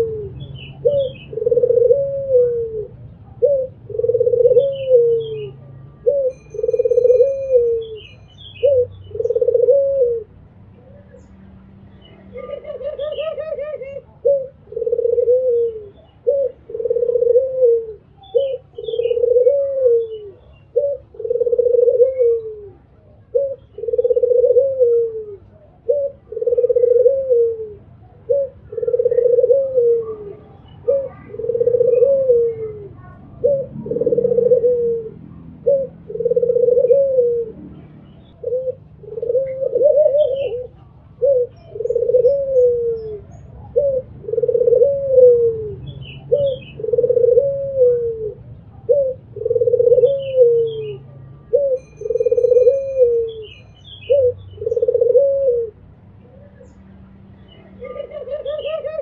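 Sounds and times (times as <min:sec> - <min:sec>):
dove cooing: 0:00.0 - 0:11.3, 0:12.0 - 0:56.8, 0:57.5 - 0:59.0
small birds chirping: 0:00.0 - 0:59.0.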